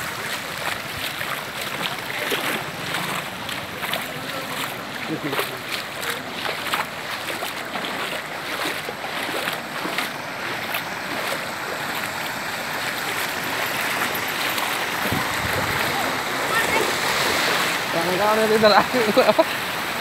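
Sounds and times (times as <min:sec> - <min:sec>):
floodwater rushing and churning: 0:00.0 - 0:20.0.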